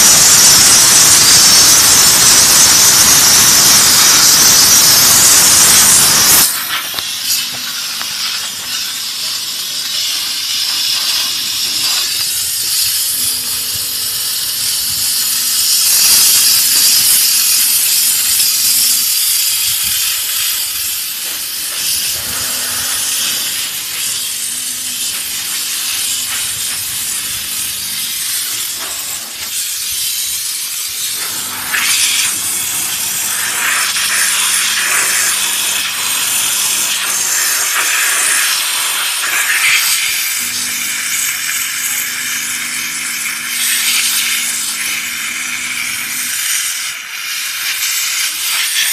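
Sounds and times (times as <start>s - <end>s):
steam gun hissing: 0.0s - 48.9s.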